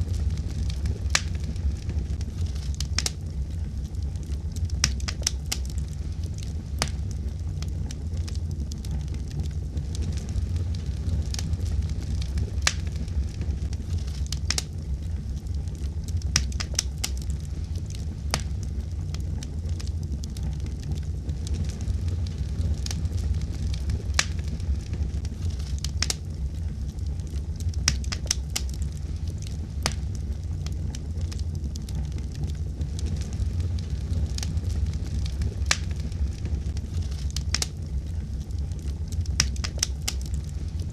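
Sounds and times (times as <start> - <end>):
fire rumbling: 0.0 - 40.9
logs crackling and popping: 0.0 - 40.9.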